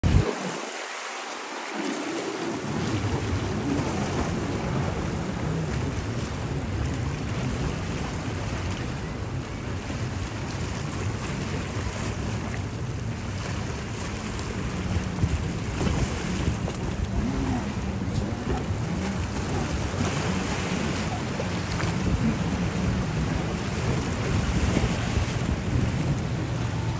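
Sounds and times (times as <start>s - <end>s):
wind on microphone: 0.0s - 0.6s, 1.7s - 26.9s
jet ski engines: 0.0s - 26.9s
water and waves: 0.0s - 26.9s.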